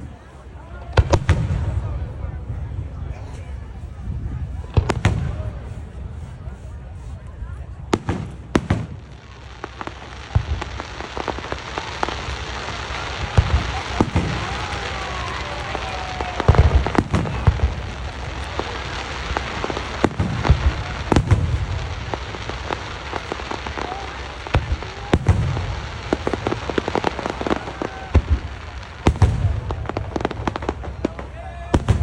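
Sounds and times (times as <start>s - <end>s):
crackling fireworks hiss: 0.0s - 32.0s
firework bangs and booms: 0.8s - 32.0s.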